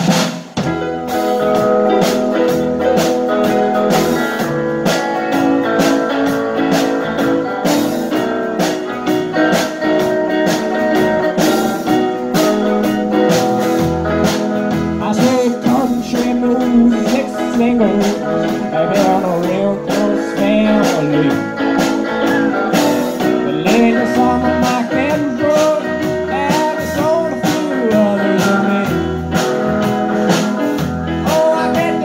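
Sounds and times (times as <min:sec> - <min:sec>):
drum kit beat: 0:00.0 - 0:32.0
electric guitar: 0:00.0 - 0:32.0
electric bass: 0:00.6 - 0:32.0
keyboard: 0:00.6 - 0:32.0.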